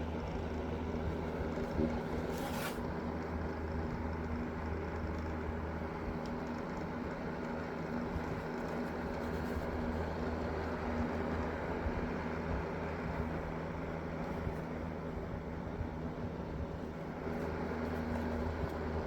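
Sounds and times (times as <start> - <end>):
electric fan motor humming: 0.0 - 19.0.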